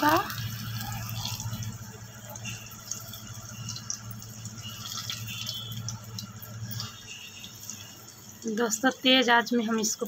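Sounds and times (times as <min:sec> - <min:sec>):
fritters sizzling in hot oil: 0:00.0 - 0:10.0.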